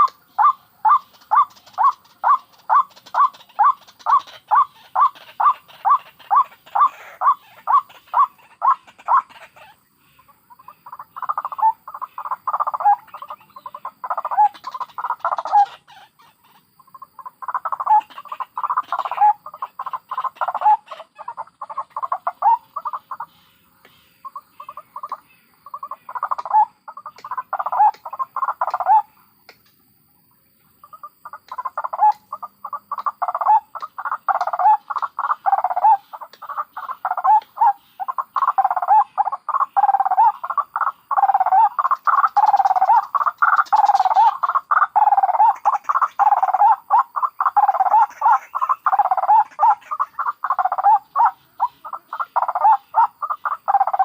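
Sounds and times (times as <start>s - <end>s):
rapid harsh chattering bird calls: 0.0s - 29.2s, 30.7s - 54.0s
harsh evenly spaced bird notes: 0.0s - 54.0s.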